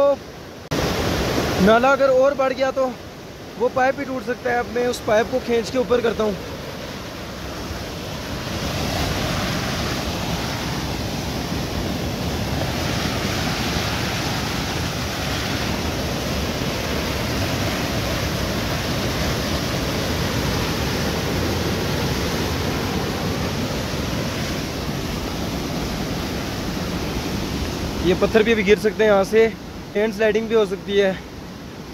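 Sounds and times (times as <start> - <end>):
stream rushing over boulders: 0.0 - 31.9.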